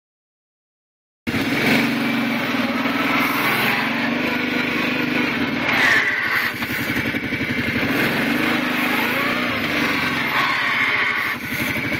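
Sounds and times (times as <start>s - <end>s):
atv engine running: 1.3s - 11.9s
rattly clutch grinding: 1.3s - 11.9s.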